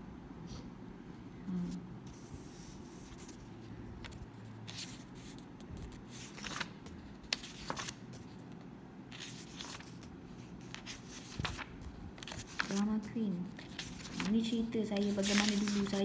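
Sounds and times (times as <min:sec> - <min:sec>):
book pages turning: 0:02.1 - 0:16.0.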